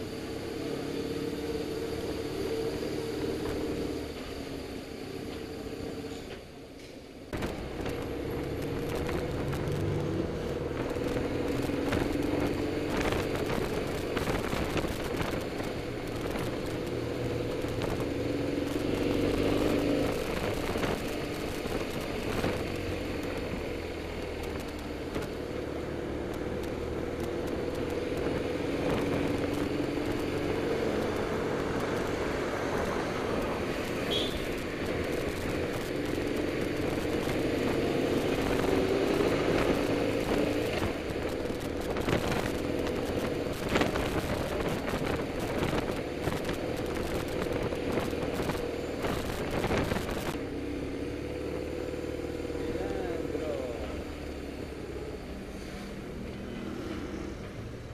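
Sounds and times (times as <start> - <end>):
road and wind noise: 0.0 - 57.9
motorcycle engine running: 7.4 - 56.6.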